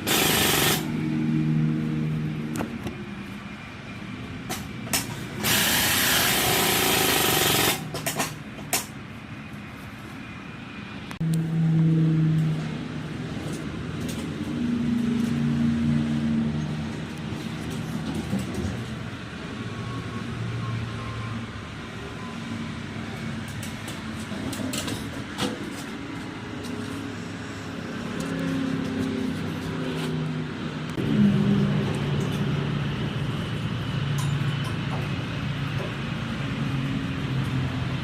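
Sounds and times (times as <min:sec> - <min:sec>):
engine running: 0:00.0 - 0:38.0.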